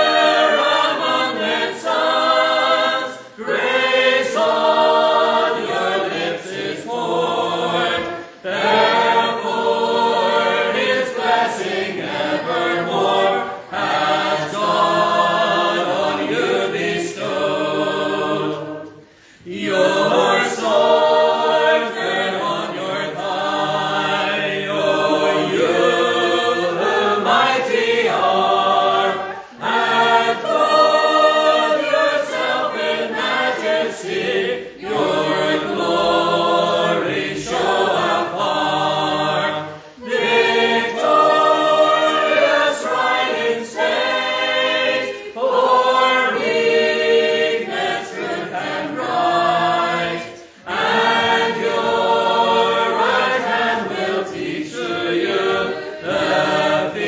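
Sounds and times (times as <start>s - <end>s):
congregation singing unaccompanied: 0.0s - 57.0s.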